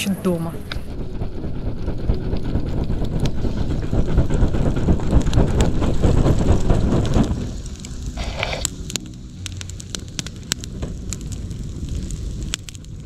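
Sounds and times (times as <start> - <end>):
air gusts buffeting microphone: 0.0 - 13.0
crackle of burning twigs: 0.4 - 13.0.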